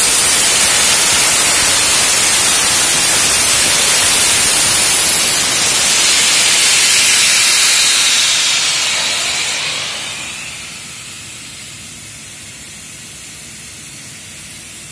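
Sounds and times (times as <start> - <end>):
sandblasting nozzle hissing: 0.0 - 13.0.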